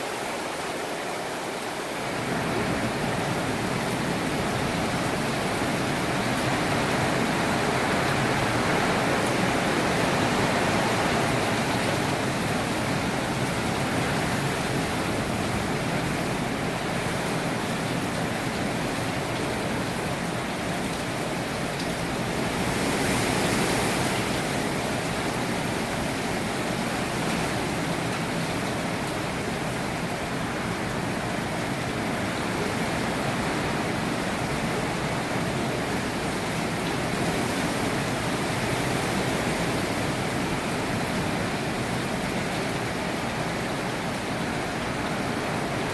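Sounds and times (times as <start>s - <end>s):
hurricane wind and rain: 0.0s - 45.9s.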